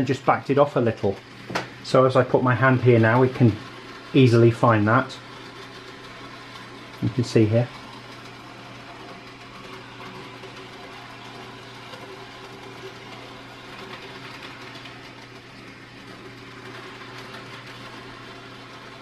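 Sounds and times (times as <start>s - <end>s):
model train motor humming: 0.0s - 19.0s.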